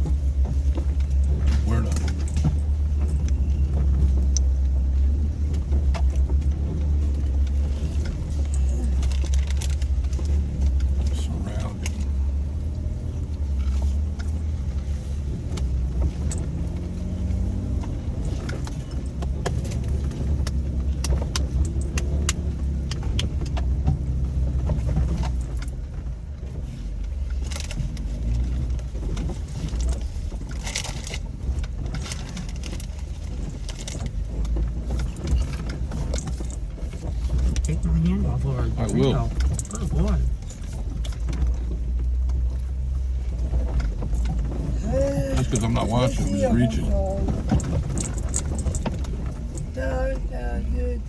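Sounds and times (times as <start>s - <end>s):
car engine running: 0.0s - 51.0s
rattles and knocks of loose gear: 0.0s - 51.0s.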